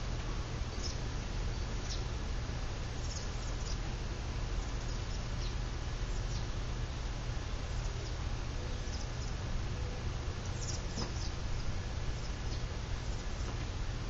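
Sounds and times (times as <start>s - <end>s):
ceiling fan running: 0.0s - 14.0s.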